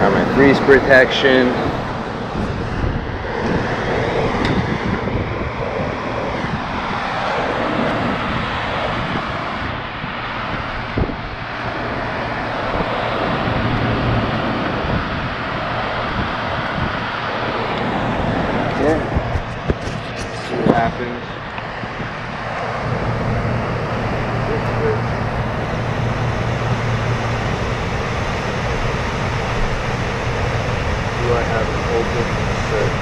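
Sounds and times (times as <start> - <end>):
steady rushing noise: 0.0 - 33.0
wind buffeting microphone: 0.0 - 33.0.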